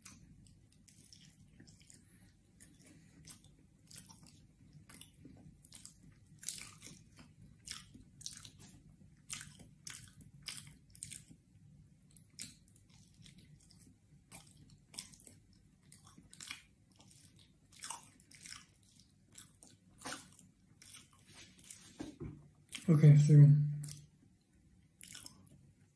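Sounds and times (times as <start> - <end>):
person chewing with wet smacks: 0.0 - 22.9, 23.6 - 25.9.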